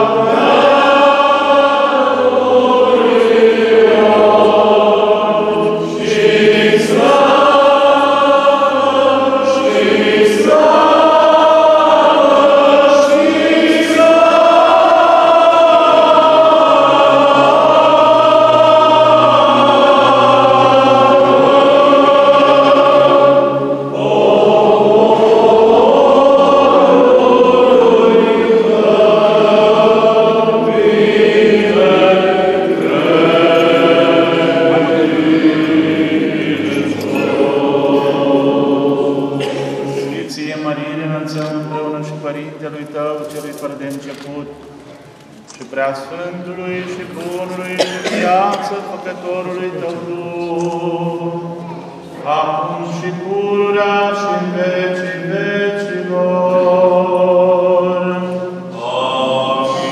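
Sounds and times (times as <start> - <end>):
choir chanting a hymn: 0.0 - 44.6, 45.8 - 59.9.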